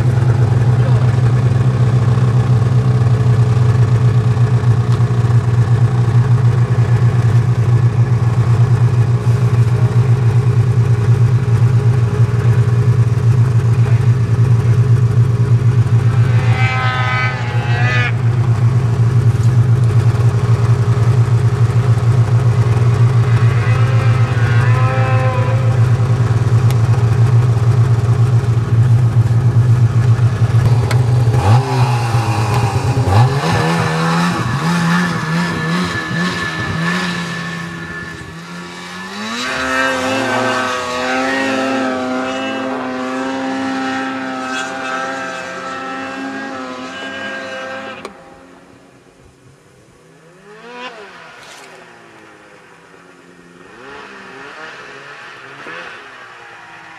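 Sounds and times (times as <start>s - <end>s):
snowmobile engine revving: 0.0s - 48.5s, 50.2s - 52.4s, 53.4s - 56.9s
snowmobile engine droning: 0.0s - 49.0s, 50.1s - 56.9s.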